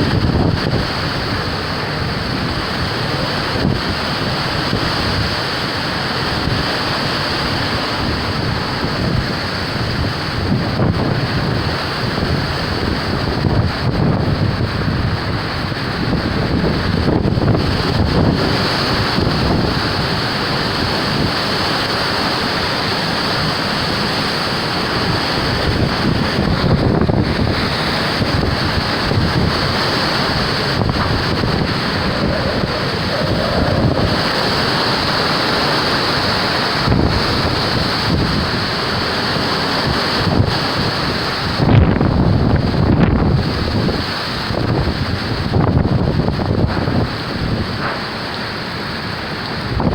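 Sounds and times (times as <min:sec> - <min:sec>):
strong wind gusting: 0:00.0 - 0:49.9.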